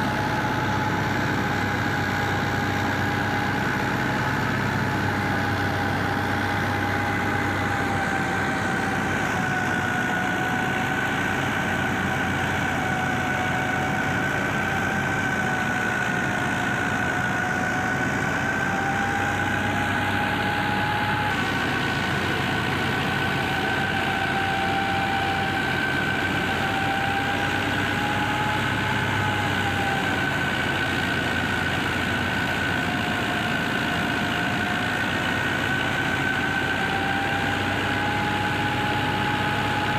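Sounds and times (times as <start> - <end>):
thresher machine hum and whine: 0.0 - 39.9.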